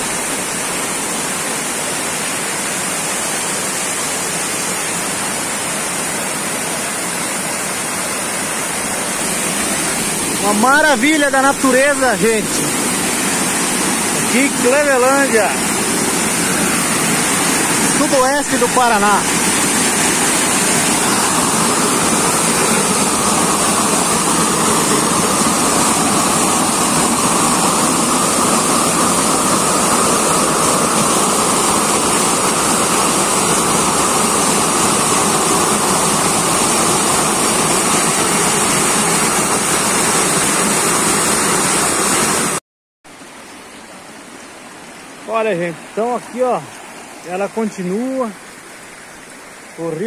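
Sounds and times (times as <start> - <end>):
creek water rushing over rocks: 0.0 - 50.0.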